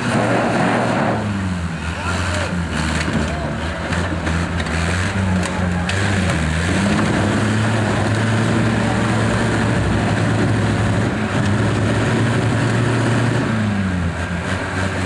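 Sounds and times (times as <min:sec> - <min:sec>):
truck engine droning under load: 0:00.0 - 0:15.0.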